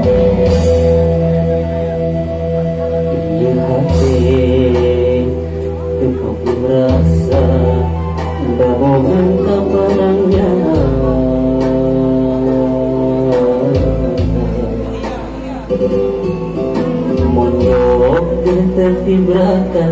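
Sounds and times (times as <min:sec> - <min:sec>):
instrumental backing with bass and beat: 0:00.0 - 0:19.9
man singing into a microphone: 0:00.0 - 0:19.9.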